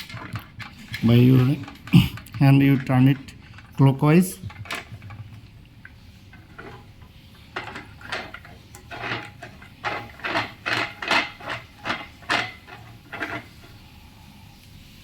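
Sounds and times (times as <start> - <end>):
metal threads scraping: 0.0 - 14.3.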